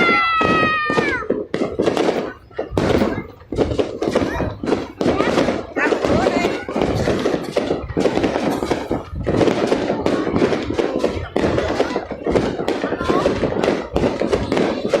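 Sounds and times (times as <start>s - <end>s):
crowd voices: 0.0s - 15.0s
fireworks banging: 0.0s - 15.0s.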